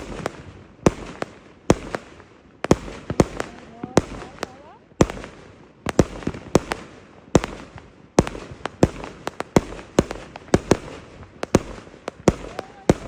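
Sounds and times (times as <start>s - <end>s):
fireworks bangs: 0.0s - 13.0s
rumble from fireworks: 0.0s - 13.0s.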